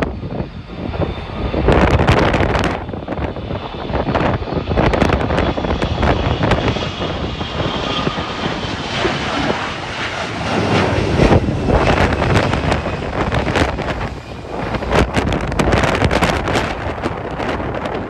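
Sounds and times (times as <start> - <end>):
jet engines rumbling: 0.0 - 18.0
wind buffeting microphone: 0.0 - 18.0.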